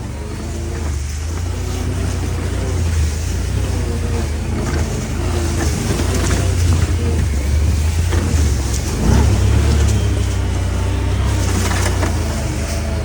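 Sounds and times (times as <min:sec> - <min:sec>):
rattling: 0:00.0 - 0:13.0
vehicle engine droning: 0:00.0 - 0:13.0.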